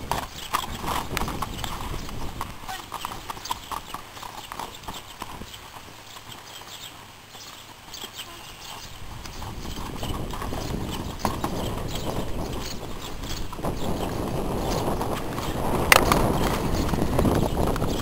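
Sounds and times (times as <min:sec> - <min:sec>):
horse hooves on dirt: 0:00.0 - 0:18.0.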